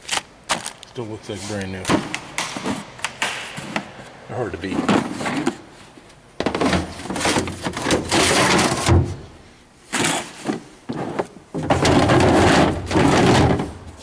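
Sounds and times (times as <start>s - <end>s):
tools clattering and scraping: 1.3s - 9.3s, 9.9s - 14.0s
drawer sliding: 1.9s - 9.4s, 10.0s - 14.0s.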